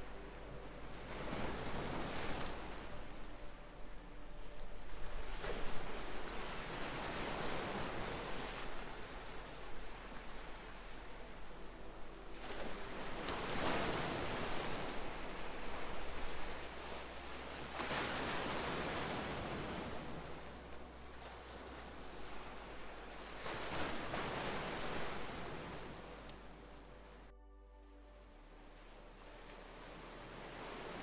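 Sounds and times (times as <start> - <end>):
ocean waves washing in: 0.0 - 26.8, 28.8 - 31.0.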